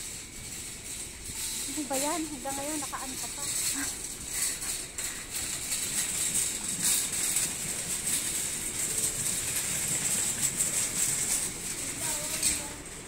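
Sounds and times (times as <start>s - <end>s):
scratchy rustling and rattling: 0.0s - 13.0s.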